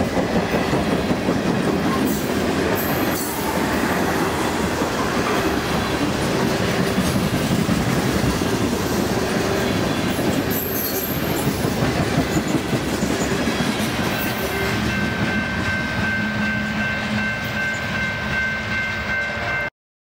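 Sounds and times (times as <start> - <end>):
train wheels rumbling on rails: 0.0 - 19.7.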